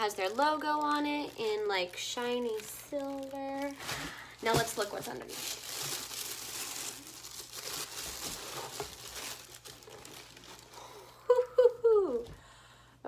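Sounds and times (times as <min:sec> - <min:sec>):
tissue paper crinkling: 0:00.0 - 0:11.7.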